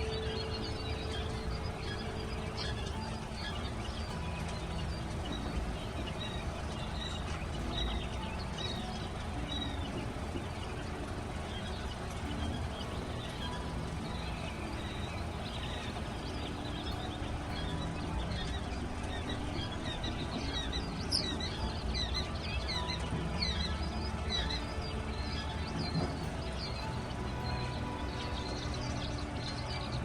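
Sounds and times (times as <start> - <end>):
chicks peeping: 0.0 - 30.0
steady low rumble: 0.0 - 30.0.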